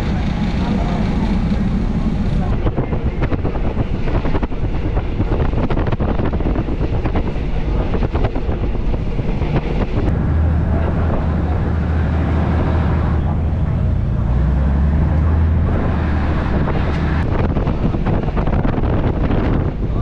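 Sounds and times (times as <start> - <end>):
low engine drone: 0.0 - 20.0
railcar rumble and wheel clatter: 0.0 - 20.0
wind noise on microphone: 0.0 - 20.0.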